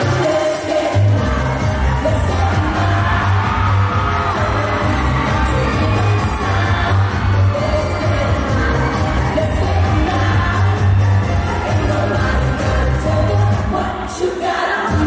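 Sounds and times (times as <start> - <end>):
pop dance music over speakers: 0.0 - 15.0
heavy pulsing bass beat: 1.1 - 13.7.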